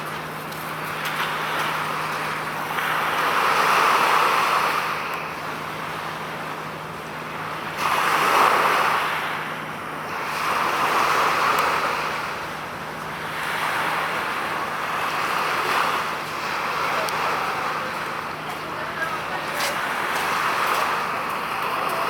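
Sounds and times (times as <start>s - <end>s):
waves washing on shore: 0.0s - 22.0s.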